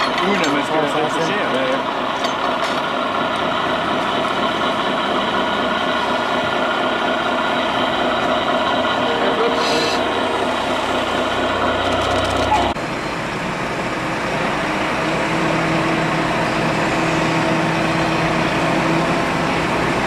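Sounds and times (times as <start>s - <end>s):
idling truck engine drone: 0.0s - 20.0s.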